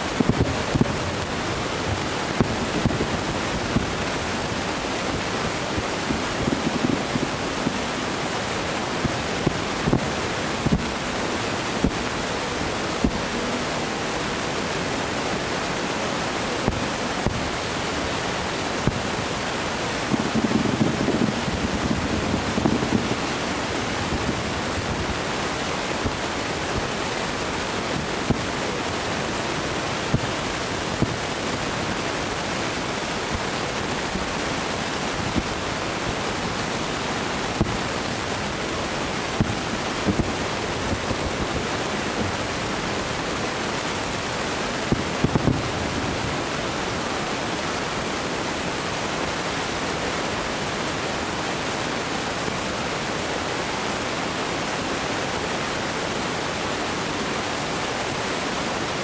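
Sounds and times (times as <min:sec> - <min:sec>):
distant fireworks cracking: 0:00.0 - 0:49.2
steady rushing noise: 0:00.0 - 0:59.0.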